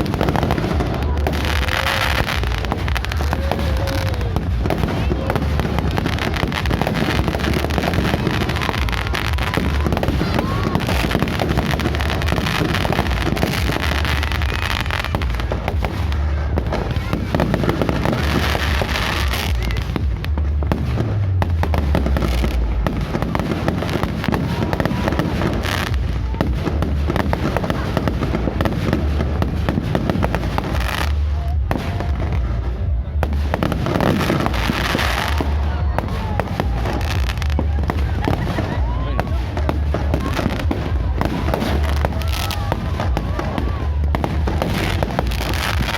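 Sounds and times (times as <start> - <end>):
fireworks bursting and crackling: 0.0 - 45.9
music: 0.0 - 45.9
voices: 0.0 - 45.9.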